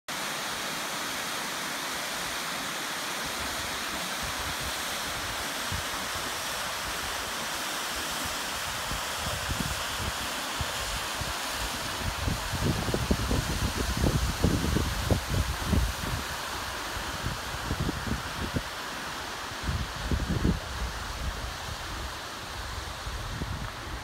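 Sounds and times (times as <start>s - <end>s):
waterfall rushing water: 0.1s - 24.0s.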